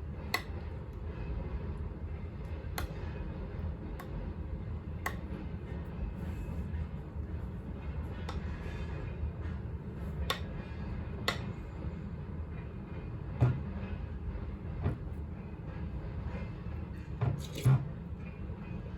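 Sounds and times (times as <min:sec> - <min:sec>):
low background hum: 0:00.0 - 0:18.9.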